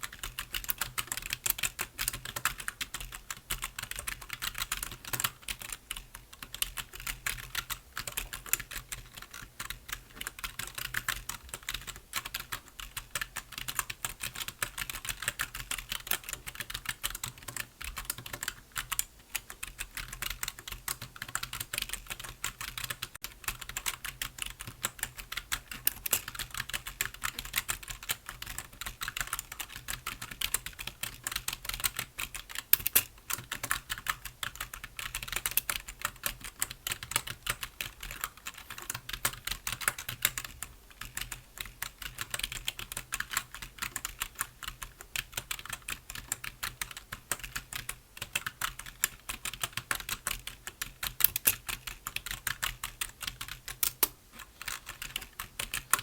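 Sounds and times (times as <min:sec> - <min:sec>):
keyboard typing: 0:00.0 - 0:56.0.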